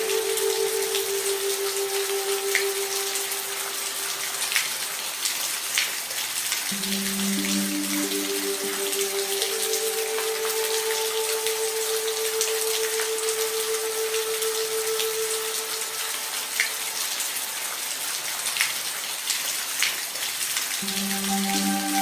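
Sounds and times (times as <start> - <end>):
soft sustained music tones: 0.0 - 5.2, 6.7 - 18.3, 20.8 - 22.0
rain drops pattering: 0.0 - 22.0.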